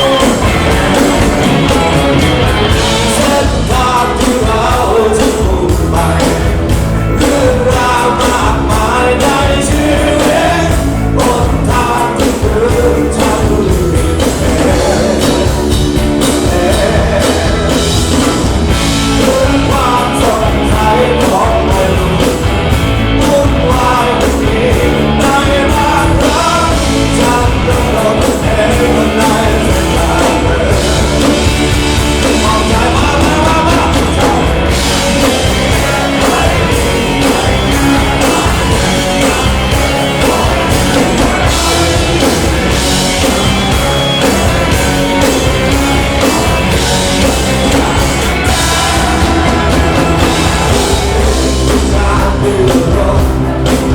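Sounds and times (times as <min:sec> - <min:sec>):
rock song with singer and band: 0:00.0 - 0:53.9.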